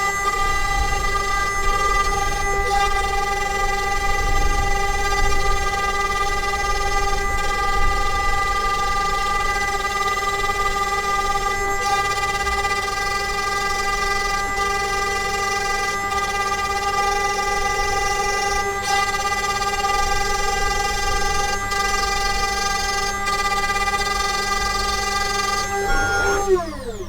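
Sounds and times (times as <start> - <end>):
end mill cutting plywood: 0.0 - 27.0
router spindle whining: 0.0 - 27.0.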